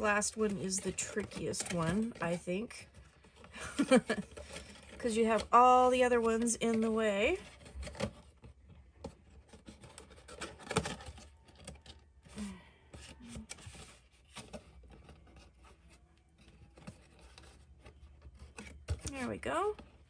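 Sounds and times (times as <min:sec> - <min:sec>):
paper rustling and scraping: 0:00.0 - 0:20.0.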